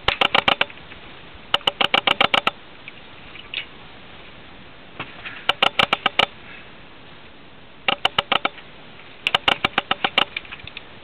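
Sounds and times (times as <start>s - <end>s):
steady low background noise: 0.0s - 11.0s.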